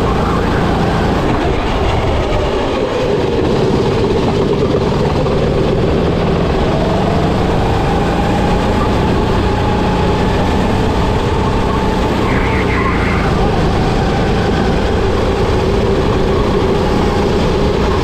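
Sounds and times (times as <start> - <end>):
kart engine running hard: 0.0 - 18.0.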